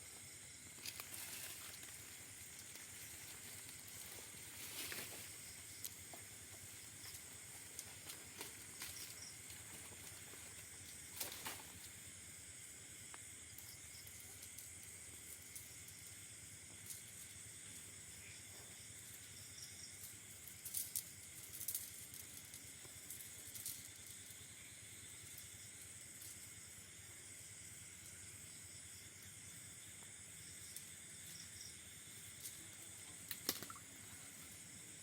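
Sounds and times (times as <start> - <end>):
night insects chirping: 0.0 - 35.0.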